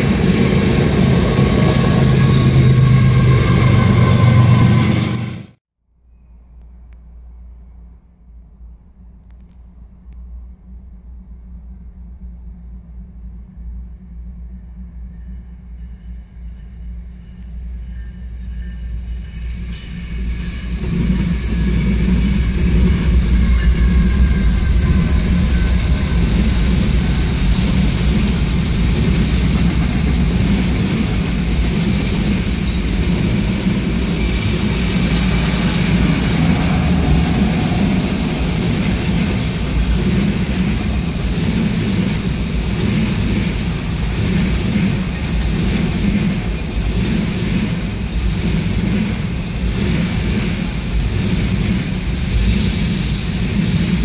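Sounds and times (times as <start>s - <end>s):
diesel locomotives: 0.0s - 5.6s, 6.5s - 54.0s
steel wheels rumbling on rail: 0.0s - 5.6s, 9.9s - 54.0s.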